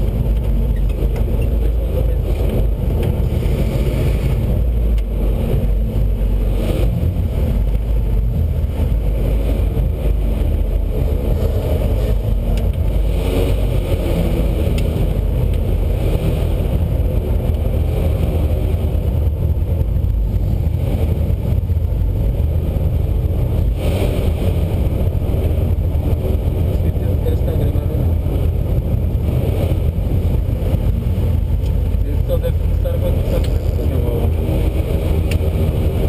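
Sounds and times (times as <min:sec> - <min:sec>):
car engine running at low revs: 0:00.0 - 0:36.0.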